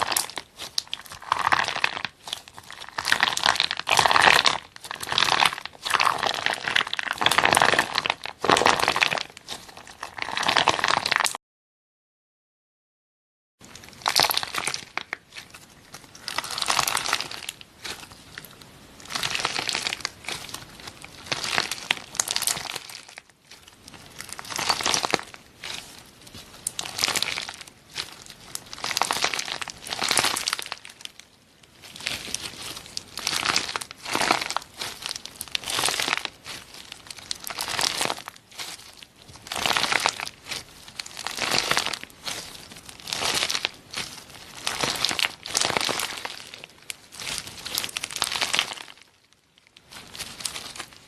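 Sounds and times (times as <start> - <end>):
slime crackling and popping: 0.0 - 11.4, 13.6 - 51.0.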